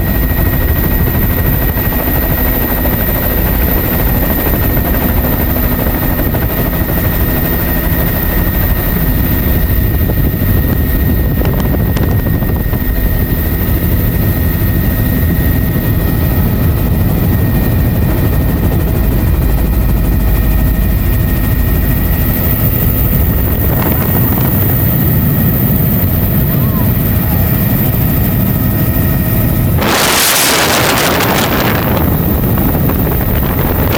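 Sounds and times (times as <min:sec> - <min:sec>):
helicopter engine and rotor: 0:00.0 - 0:33.9
high engine whine: 0:00.0 - 0:33.9.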